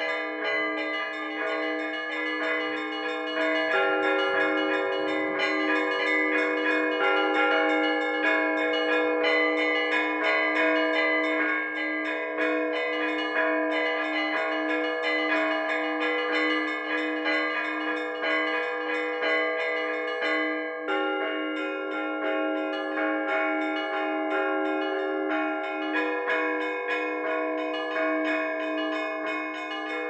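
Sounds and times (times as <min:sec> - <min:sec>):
small church bells ringing: 0:00.0 - 0:30.0.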